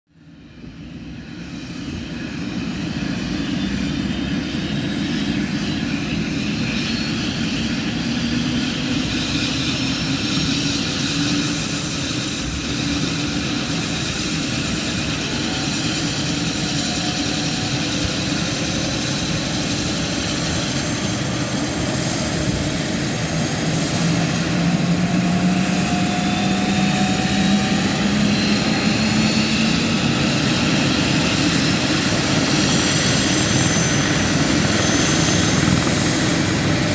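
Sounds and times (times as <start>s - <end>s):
helicopter engines and rotor: 0.1s - 36.9s.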